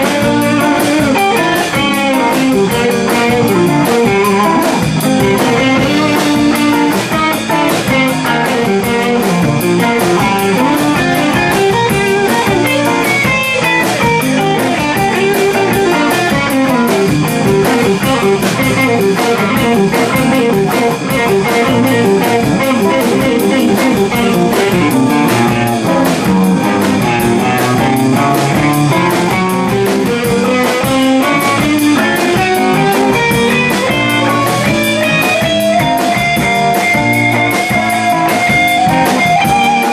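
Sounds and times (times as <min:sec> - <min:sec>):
guitar slide: 0:00.0 - 0:39.9
live blues rock band playing: 0:00.0 - 0:39.9.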